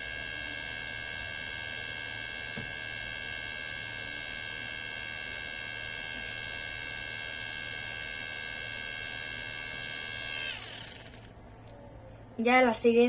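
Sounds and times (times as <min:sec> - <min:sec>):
motor-driven siren winding down: 0:00.0 - 0:12.2.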